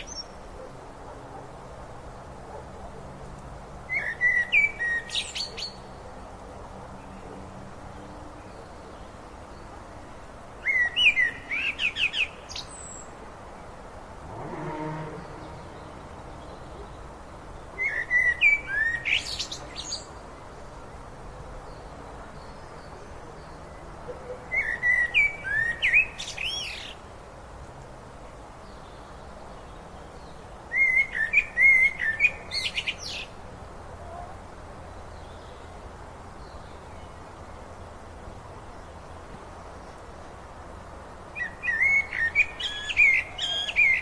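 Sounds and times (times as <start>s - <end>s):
songbird singing: 0.0s - 44.0s.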